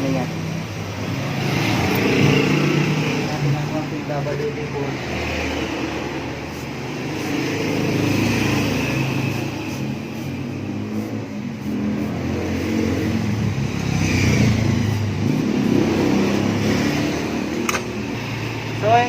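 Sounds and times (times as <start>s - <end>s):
vehicle engines passing by: 0.0s - 19.0s.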